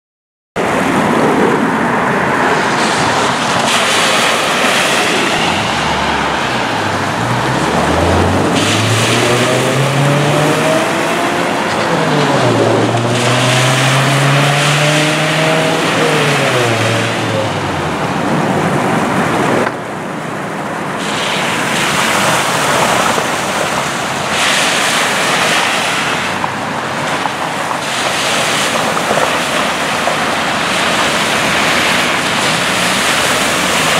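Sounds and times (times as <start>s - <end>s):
vehicles driving through water: 0.6s - 33.9s
water gushing: 0.6s - 33.9s.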